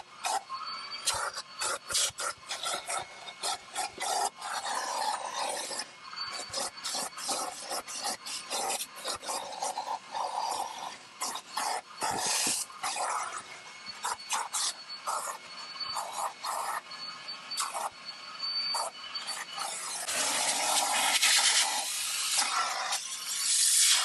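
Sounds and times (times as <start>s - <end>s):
vacuum nozzle rasping on carpet: 1.0s - 18.0s, 18.7s - 24.0s.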